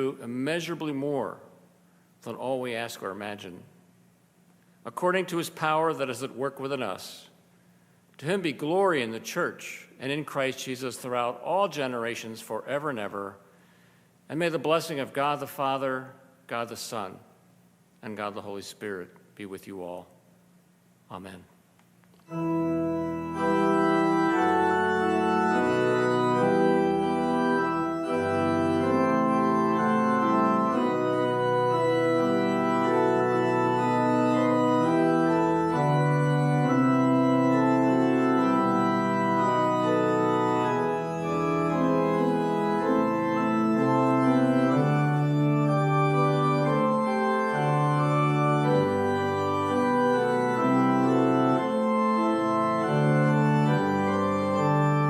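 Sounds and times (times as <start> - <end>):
church organ chords: 0.0 - 3.7, 4.8 - 7.3, 8.2 - 17.2, 22.2 - 55.0.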